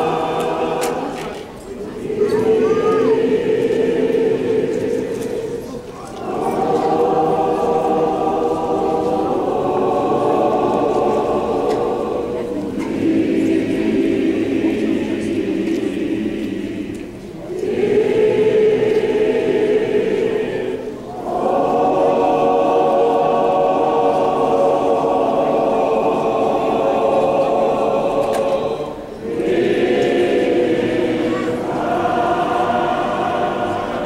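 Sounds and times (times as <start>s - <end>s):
church choir singing: 0.0s - 34.0s.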